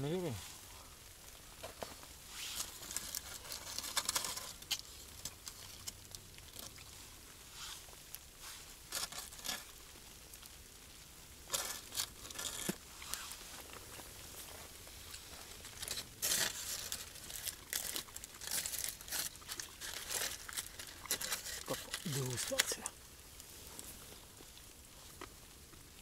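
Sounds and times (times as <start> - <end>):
rustling and crinkling: 0.0 - 26.0.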